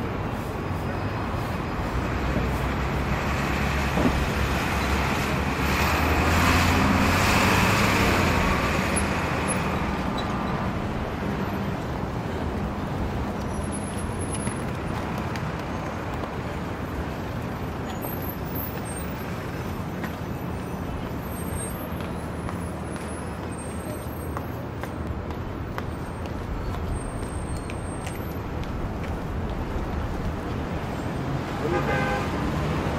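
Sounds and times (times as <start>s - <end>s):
din of traffic: 0.0s - 32.9s.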